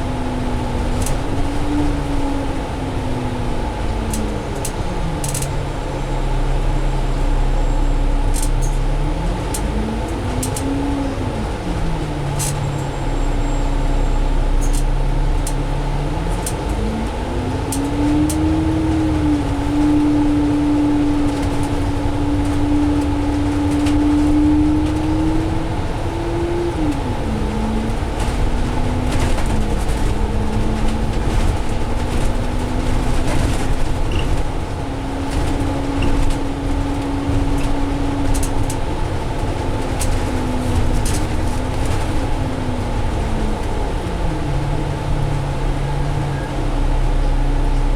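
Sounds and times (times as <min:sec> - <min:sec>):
bus engine under way: 0:00.0 - 0:47.9.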